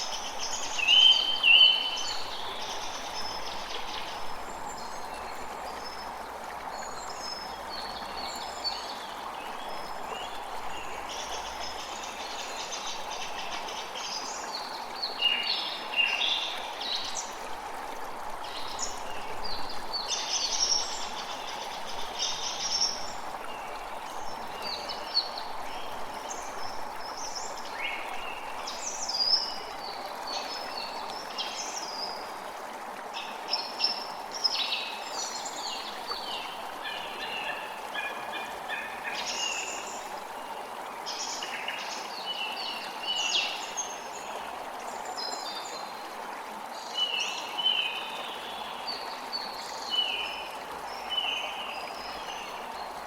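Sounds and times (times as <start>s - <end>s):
creek flowing: 0.0s - 53.0s.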